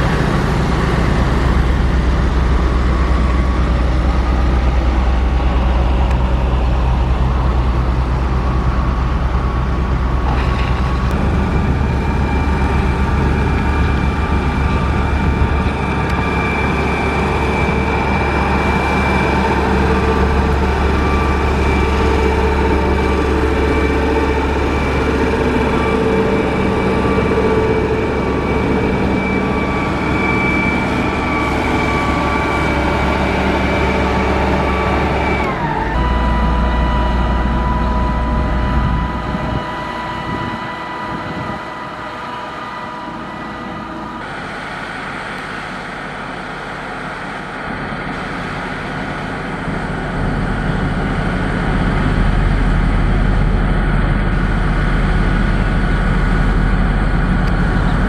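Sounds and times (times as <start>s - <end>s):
diesel engine running: 0.0s - 58.0s
high engine whine: 0.0s - 58.0s.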